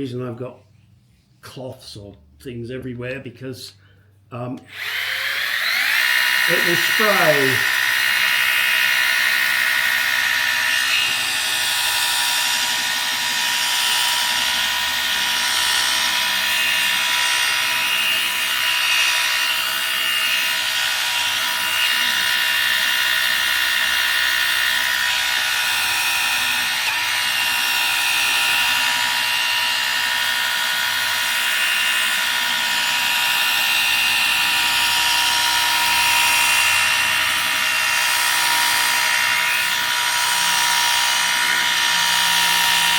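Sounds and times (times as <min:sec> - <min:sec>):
drill motor whirring: 0:04.6 - 0:42.9.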